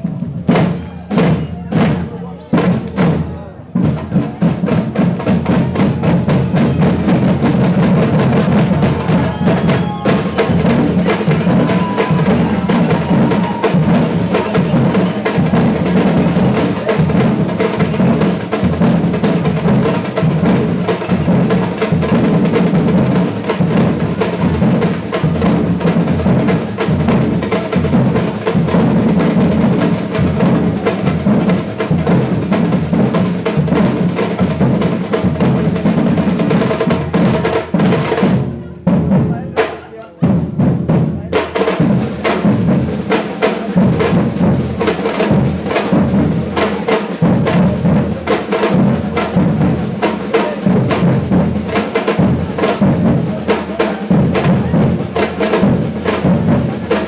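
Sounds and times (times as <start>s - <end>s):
percussion ensemble playing: 0.0s - 57.0s.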